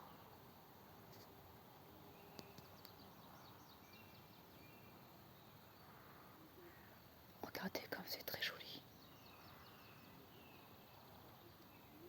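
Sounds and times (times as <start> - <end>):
distant bird singing: 2.0 - 12.0.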